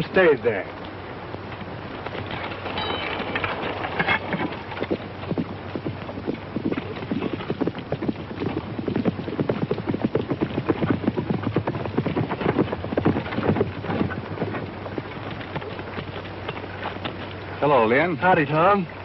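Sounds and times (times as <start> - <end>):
film soundtrack hum and crackle: 0.0 - 19.0
horse hooves clip-clopping on dirt: 0.0 - 19.0.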